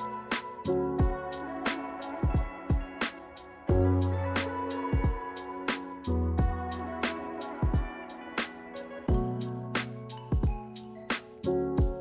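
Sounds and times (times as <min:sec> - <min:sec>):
drum beat: 0:00.0 - 0:10.8, 0:11.8 - 0:12.0
held instrumental chords: 0:00.0 - 0:12.0.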